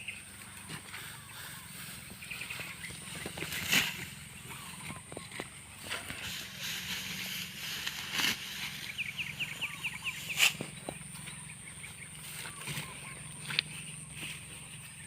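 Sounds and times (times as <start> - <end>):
bird chirping: 0.0 - 5.8, 8.6 - 15.0.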